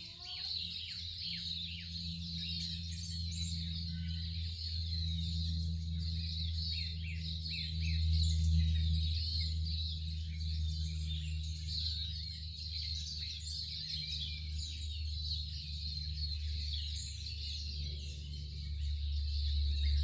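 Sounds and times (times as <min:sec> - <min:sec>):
birds chirping and trilling: 0:00.0 - 0:20.0
steady low hum: 0:00.0 - 0:20.0.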